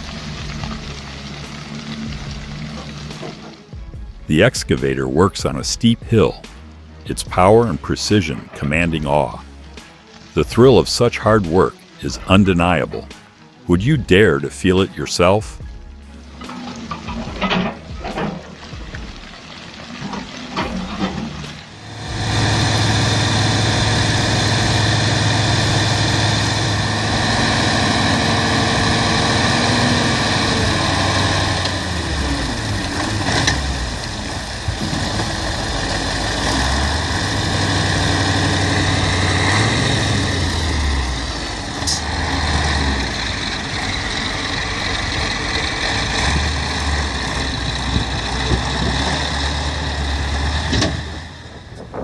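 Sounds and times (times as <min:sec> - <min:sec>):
heavy vehicle engine running: 0:00.0 - 0:11.5, 0:15.6 - 0:52.0.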